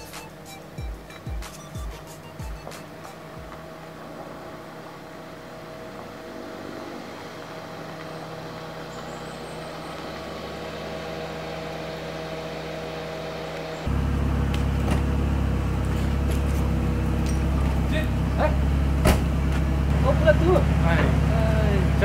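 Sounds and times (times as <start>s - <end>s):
car engine running at low speed: 0.0s - 22.0s
loud deep engine: 0.0s - 22.0s.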